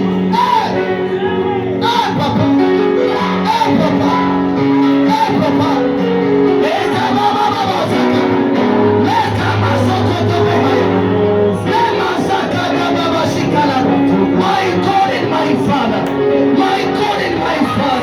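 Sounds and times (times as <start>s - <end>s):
band with guitar: 0.0s - 18.0s
people singing worship song: 2.0s - 18.0s.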